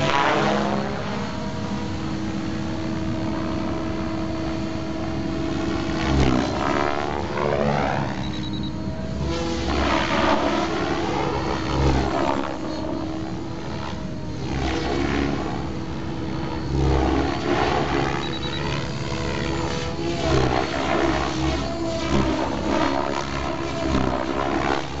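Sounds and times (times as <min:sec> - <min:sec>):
rc helicopter motor whine: 0:00.0 - 0:25.0
rotor blades whooshing: 0:00.0 - 0:25.0.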